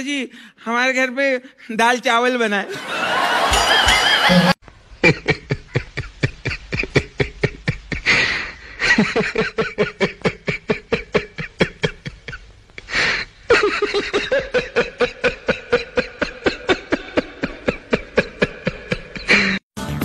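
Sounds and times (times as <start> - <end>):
woman laughing hard: 2.7 - 19.6.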